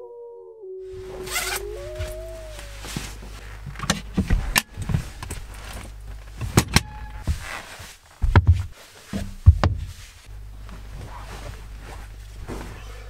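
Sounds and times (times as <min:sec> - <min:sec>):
steady low hum: 0:00.1 - 0:13.0
soft rustling: 0:00.9 - 0:13.0.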